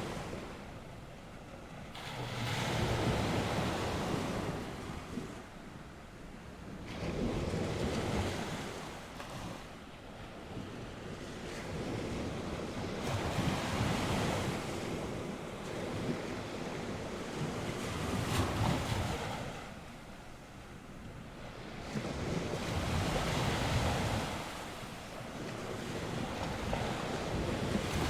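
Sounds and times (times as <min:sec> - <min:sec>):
waves washing onto shore: 0:00.0 - 0:28.0.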